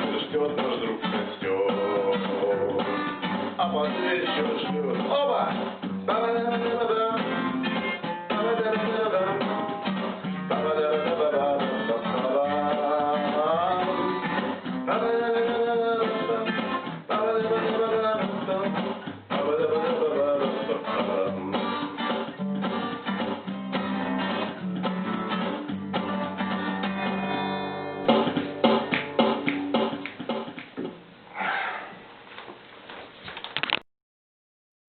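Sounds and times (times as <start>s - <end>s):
strummed acoustic guitar: 0.0s - 30.6s.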